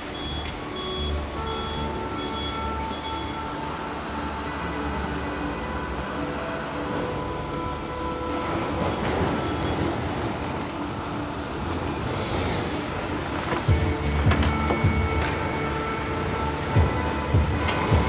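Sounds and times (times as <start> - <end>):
factory machinery running: 0.0 - 18.0.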